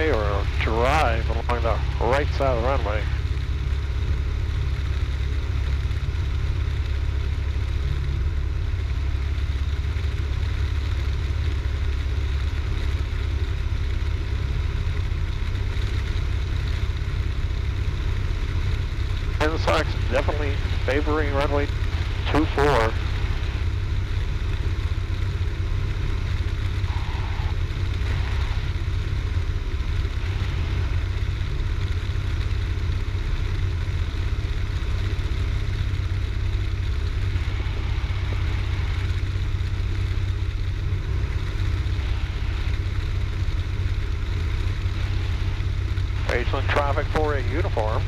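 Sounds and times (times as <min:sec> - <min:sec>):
small plane engine droning: 0:00.0 - 0:48.0.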